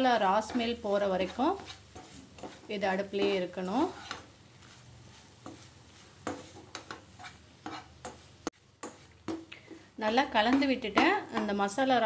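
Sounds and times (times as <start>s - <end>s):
spatula scraping a pan: 0.0s - 11.7s
faint sizzle: 0.0s - 12.0s.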